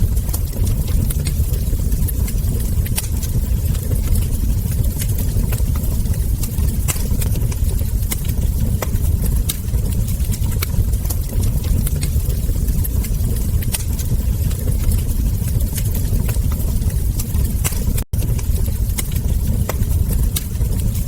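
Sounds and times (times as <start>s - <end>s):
burning logs popping and snapping: 0.0s - 21.0s
low rumble of fire: 0.0s - 21.0s.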